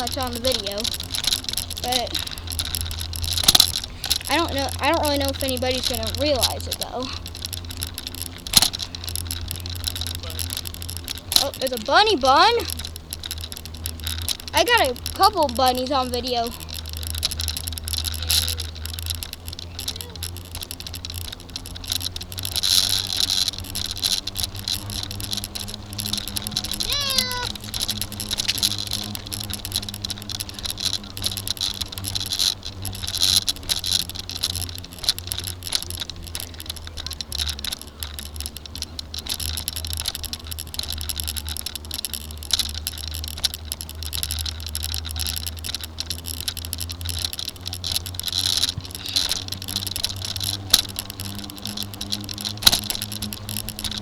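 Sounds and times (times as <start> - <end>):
bicycle rattling and clicking: 0.0 - 54.0
insects droning: 0.0 - 54.0.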